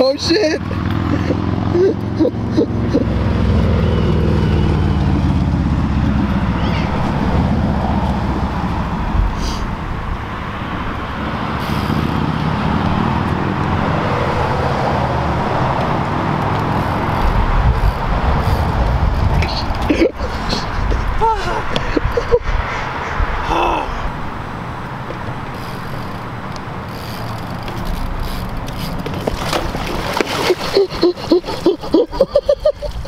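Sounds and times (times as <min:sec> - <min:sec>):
road traffic passing: 0:00.0 - 0:33.0
vehicle engine passing by: 0:00.3 - 0:33.0.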